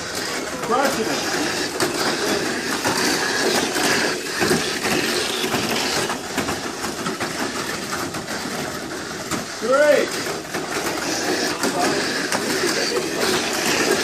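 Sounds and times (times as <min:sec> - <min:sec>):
small electric motors whirring: 0:00.0 - 0:14.0
toy cars clattering on plastic track: 0:00.0 - 0:14.0.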